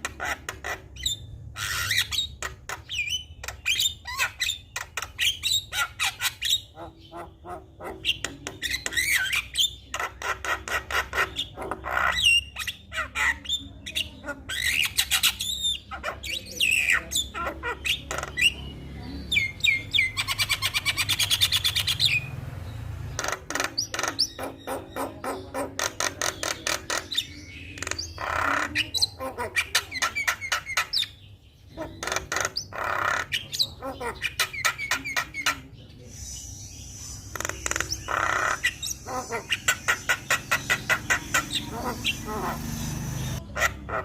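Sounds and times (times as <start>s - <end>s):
bird song with clicking chatter: 0.0s - 44.0s.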